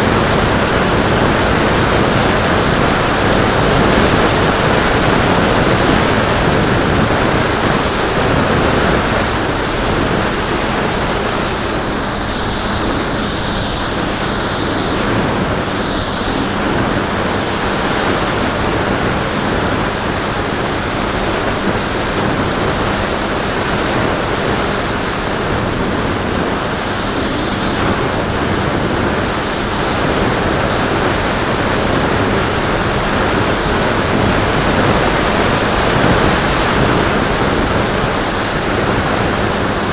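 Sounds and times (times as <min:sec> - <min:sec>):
electric motor and propeller hum: 0:00.0 - 0:39.9
wind rushing over microphone: 0:00.0 - 0:39.9.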